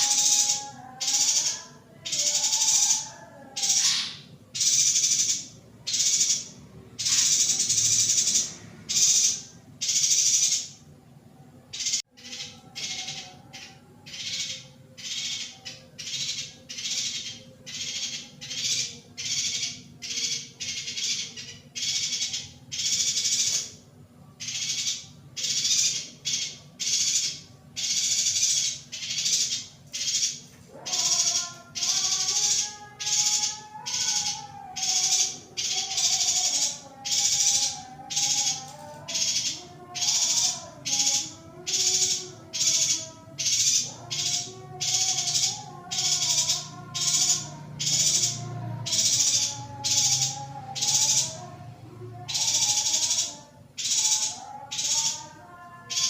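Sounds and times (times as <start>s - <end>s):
bird harsh buzzy calls: 0.0s - 10.9s, 11.6s - 56.0s.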